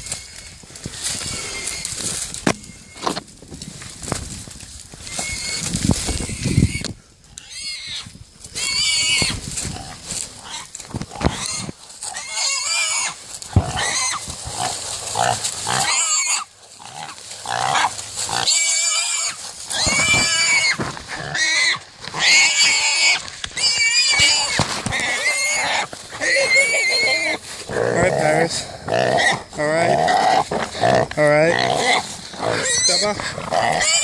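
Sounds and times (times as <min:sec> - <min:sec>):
small hog squealing: 0:00.0 - 0:03.2, 0:05.0 - 0:34.0.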